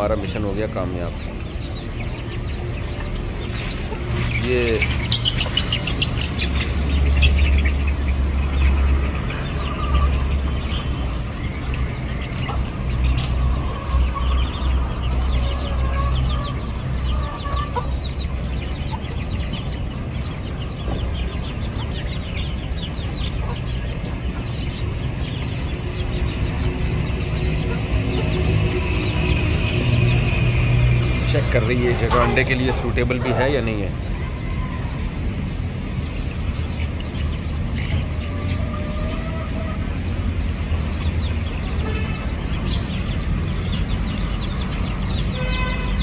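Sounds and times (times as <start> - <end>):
hens clucking: 0.0 - 45.6.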